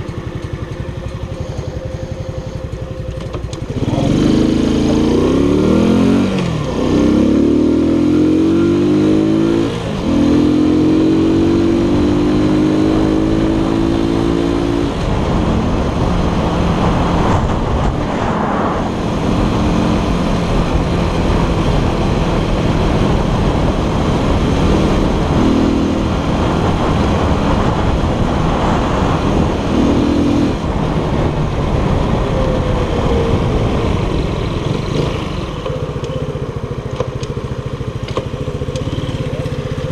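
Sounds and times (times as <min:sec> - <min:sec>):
wind rushing on microphone: 0:00.0 - 0:36.0
scooter engine accelerating: 0:00.0 - 0:39.9.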